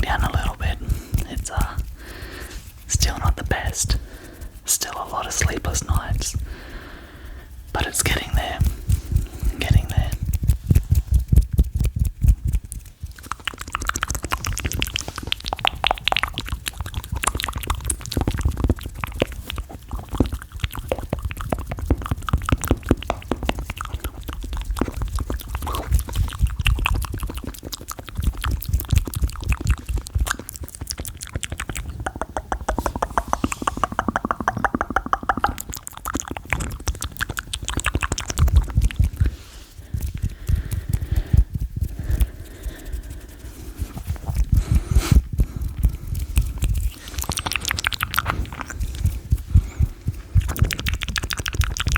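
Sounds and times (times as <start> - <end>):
mouth clicks and smacks: 0.0 - 51.9.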